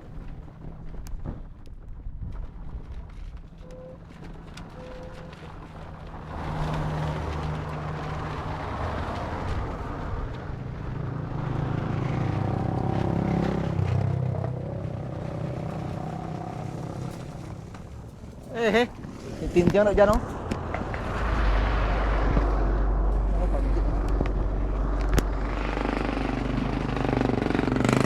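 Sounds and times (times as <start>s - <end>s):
vehicle engine running: 4.2s - 28.0s.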